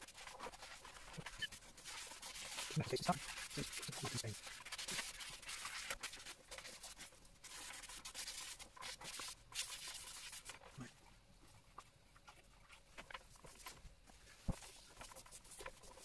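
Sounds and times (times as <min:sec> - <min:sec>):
scrubbing on stone surface: 0:00.0 - 0:16.0.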